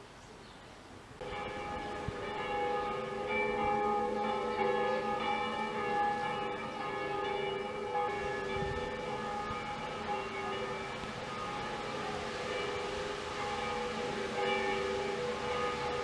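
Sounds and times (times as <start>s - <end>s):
church bells ringing: 1.2s - 16.0s.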